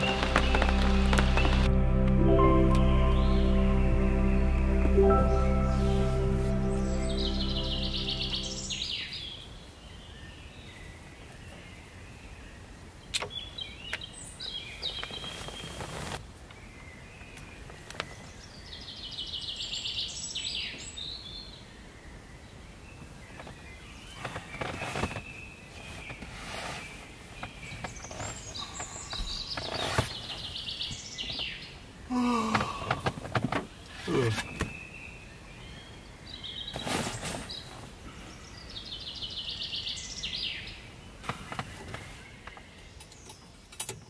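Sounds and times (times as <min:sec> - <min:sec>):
birds calling and singing: 0:02.8 - 0:44.0.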